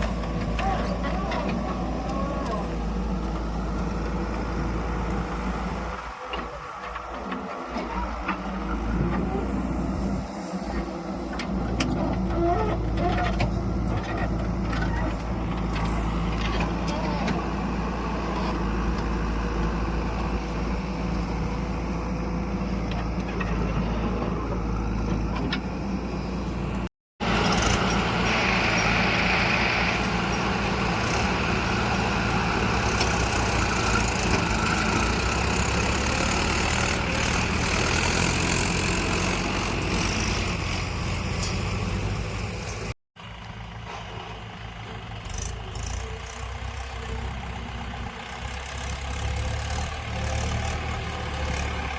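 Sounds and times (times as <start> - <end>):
diesel engines of heavy machinery: 0.0 - 51.9.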